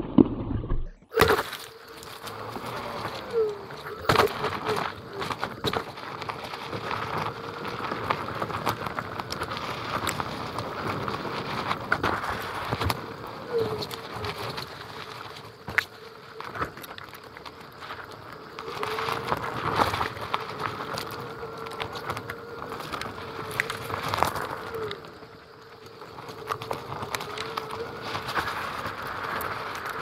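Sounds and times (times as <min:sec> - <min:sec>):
grit clicks and pops: 0:00.0 - 0:30.0
tyre crunching on gravel: 0:01.1 - 0:30.0.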